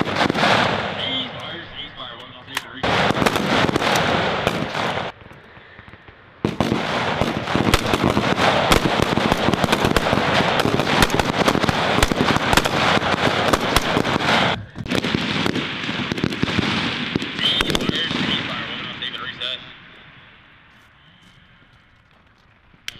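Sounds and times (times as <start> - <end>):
rifle shots: 0.0 - 19.6.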